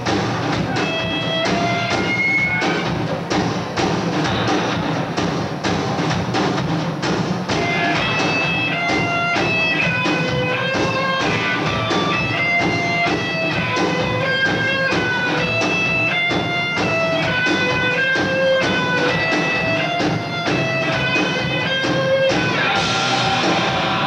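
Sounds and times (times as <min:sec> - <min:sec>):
electric guitar melody: 0:00.0 - 0:03.1, 0:07.6 - 0:24.0
drum kit playing: 0:00.0 - 0:24.0.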